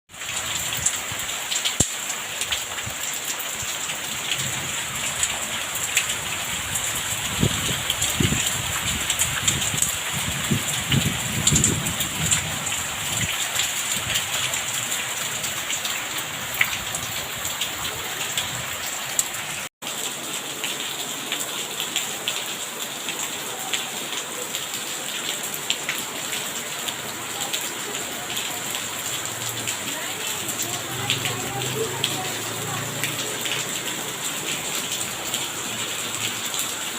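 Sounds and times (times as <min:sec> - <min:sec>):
rain pattering: 0:00.1 - 0:36.9.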